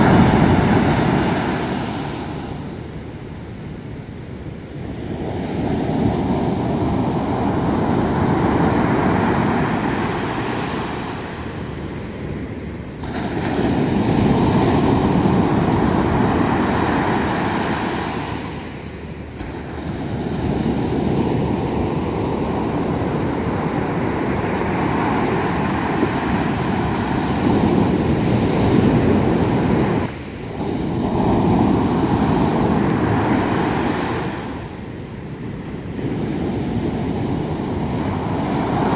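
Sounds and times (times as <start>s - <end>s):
surf washing up beach: 0.0s - 38.9s.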